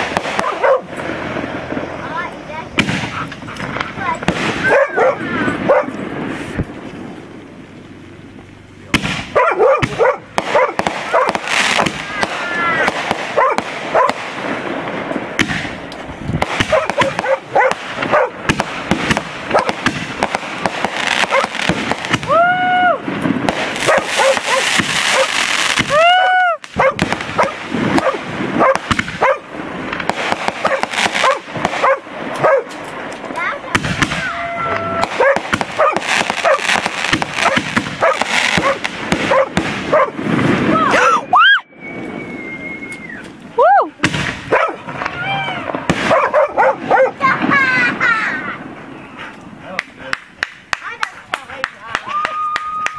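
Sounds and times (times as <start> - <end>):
fireworks bursting and crackling: 0.0 - 52.9.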